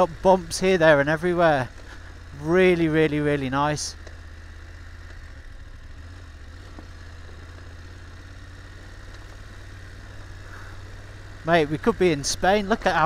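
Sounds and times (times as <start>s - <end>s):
motorcycle engine rumble: 0.0s - 13.0s.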